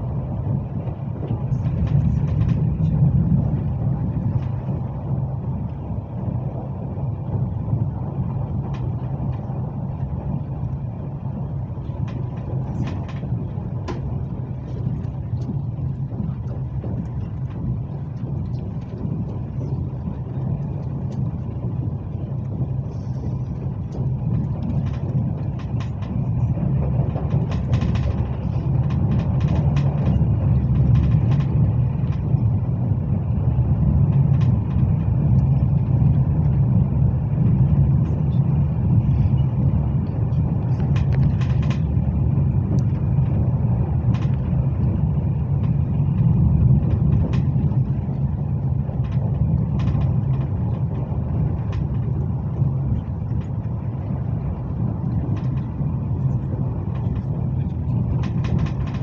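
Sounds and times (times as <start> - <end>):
train running gear rumble: 0.0 - 59.0
light clicks and rattles: 0.5 - 5.8, 8.2 - 59.0.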